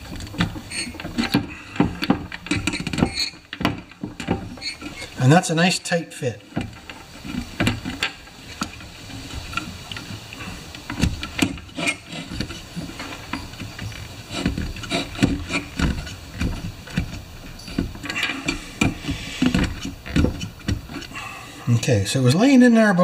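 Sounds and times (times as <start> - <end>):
plastic parts clicking and knocking: 0.0 - 5.2, 6.4 - 21.2.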